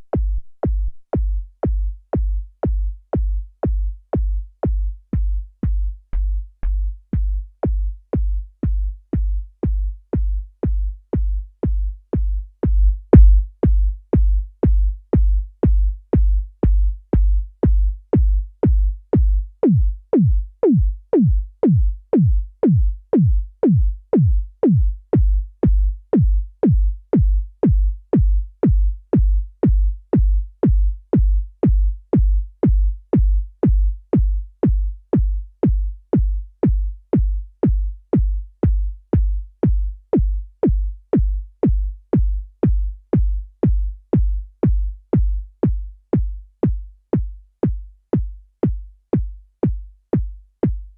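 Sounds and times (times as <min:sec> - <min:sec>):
electronic kick drum loop: 0:00.0 - 0:50.9.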